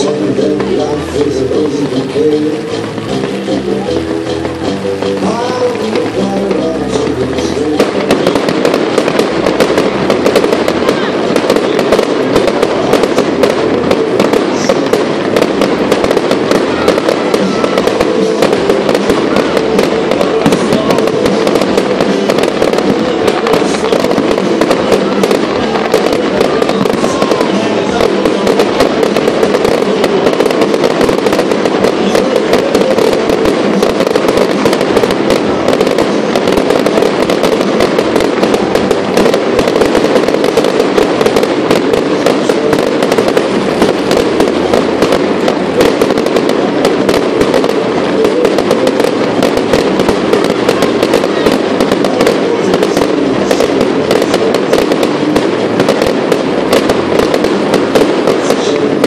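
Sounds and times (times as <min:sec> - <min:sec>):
fireworks crackling and banging: 0:00.0 - 0:59.0.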